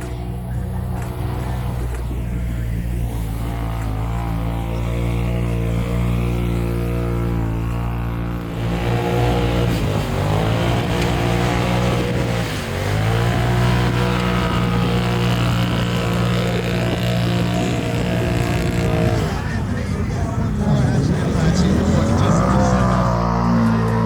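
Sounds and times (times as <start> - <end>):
engine running hard under load: 0.0 - 24.0.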